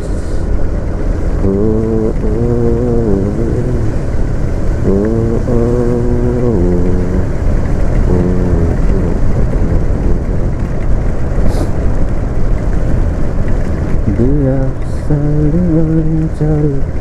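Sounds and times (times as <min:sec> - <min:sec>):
scooter engine rumble: 0:00.0 - 0:17.0
wind on microphone: 0:00.0 - 0:17.0.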